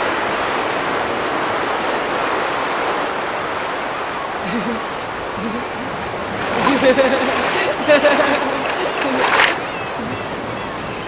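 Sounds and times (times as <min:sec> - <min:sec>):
sea surf washing on shore: 0:00.0 - 0:11.0.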